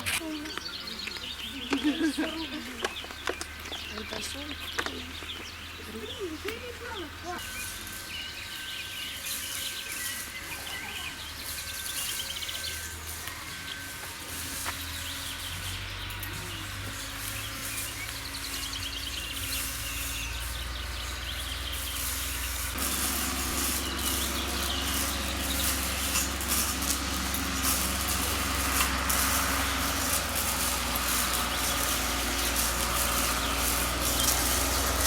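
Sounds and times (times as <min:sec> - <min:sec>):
birds chirping: 0:00.0 - 0:35.0
vehicle engine humming: 0:00.0 - 0:35.0.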